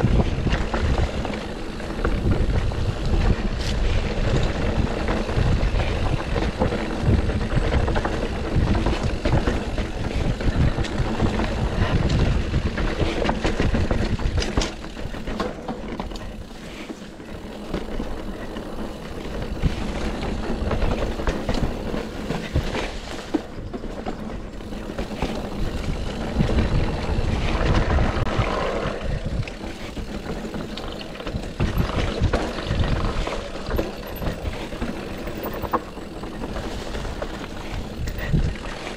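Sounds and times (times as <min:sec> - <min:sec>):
bike rattling clicks and knocks: 0:00.0 - 0:38.9
bike tyres on dirt and rock: 0:00.0 - 0:38.9
wind rumbling on microphone: 0:00.0 - 0:38.9.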